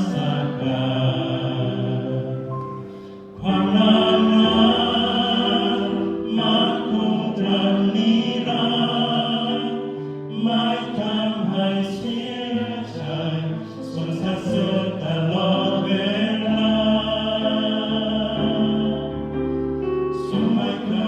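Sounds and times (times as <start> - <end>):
voices singing slow worship song: 0.0 - 21.0.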